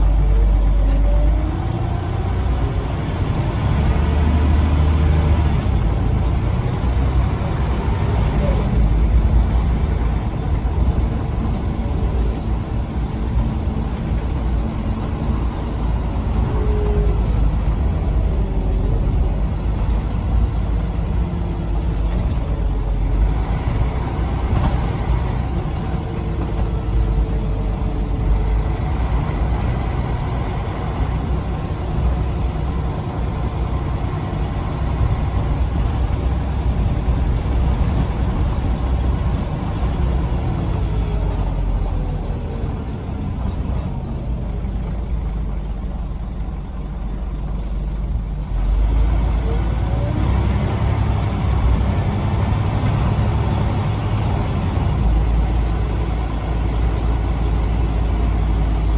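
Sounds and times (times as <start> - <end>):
bus engine rumble with whines: 0.0 - 58.9.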